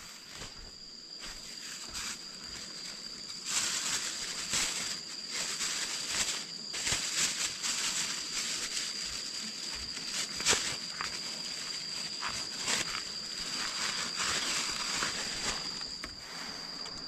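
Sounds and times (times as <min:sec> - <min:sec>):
high-pitched whine: 0:00.0 - 0:17.0
dry leaves rustling and crackling: 0:01.2 - 0:16.2.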